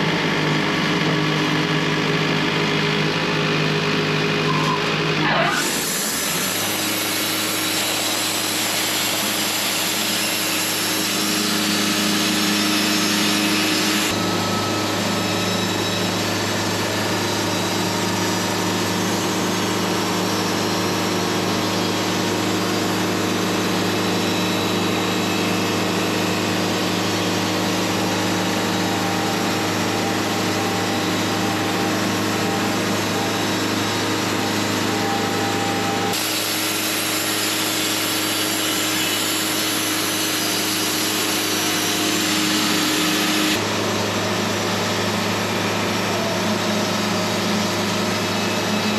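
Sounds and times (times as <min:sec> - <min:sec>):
bandsaw mill cutting log: 0:00.0 - 0:48.9.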